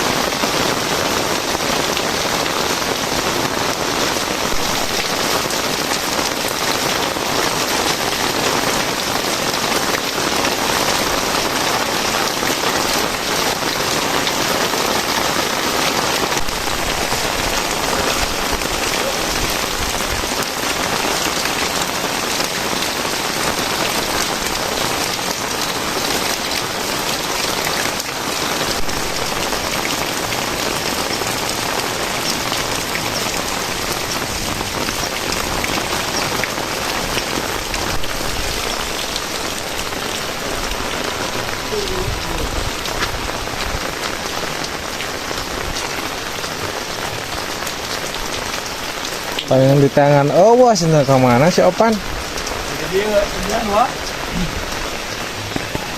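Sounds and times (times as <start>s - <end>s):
heavy rain pattering: 0.0s - 55.9s.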